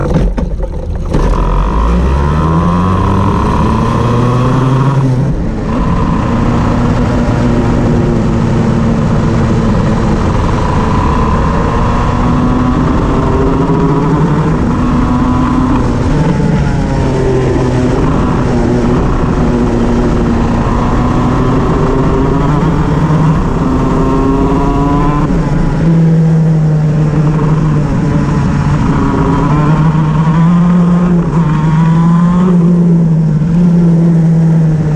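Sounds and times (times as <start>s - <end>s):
kart engine running hard: 0.0s - 34.9s.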